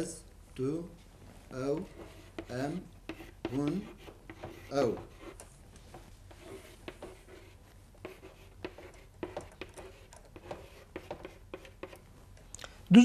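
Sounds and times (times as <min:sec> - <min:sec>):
chalk tapping and scratching: 0:01.5 - 0:12.4.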